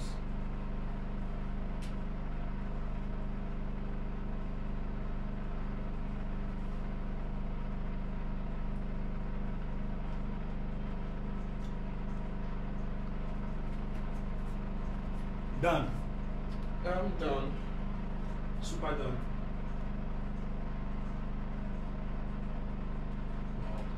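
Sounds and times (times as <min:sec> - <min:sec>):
motor humming: 0:00.0 - 0:23.9.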